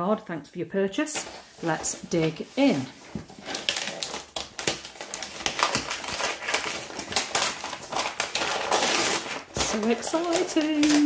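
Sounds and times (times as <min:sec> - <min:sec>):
paper tearing and crinkling: 0:01.2 - 0:11.0.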